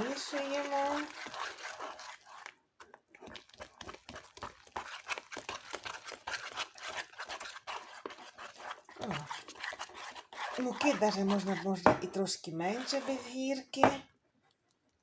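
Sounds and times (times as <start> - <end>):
whisk stirring batter: 0.0 - 14.0.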